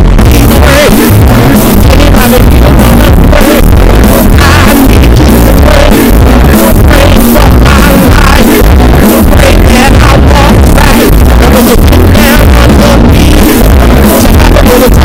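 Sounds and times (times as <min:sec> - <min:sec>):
loud bass-boosted music: 0:00.0 - 0:15.0.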